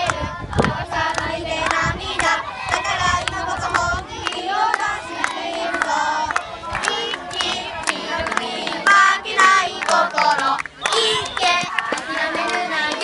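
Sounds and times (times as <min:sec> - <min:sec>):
children singing a chant: 0:00.0 - 0:13.0
hand claps: 0:00.0 - 0:13.0.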